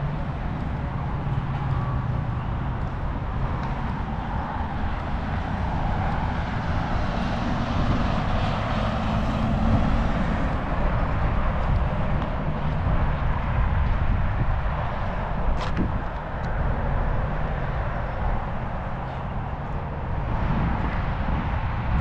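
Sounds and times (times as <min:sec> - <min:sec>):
heavy vehicle engine rumble: 0:00.0 - 0:22.0.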